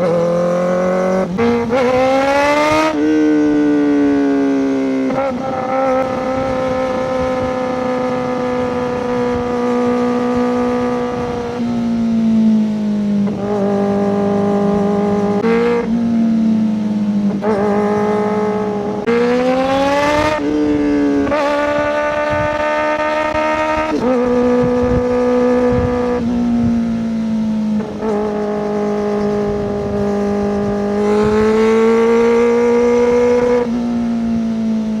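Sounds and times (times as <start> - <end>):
motorcycle engine revving high: 0.0 - 35.0.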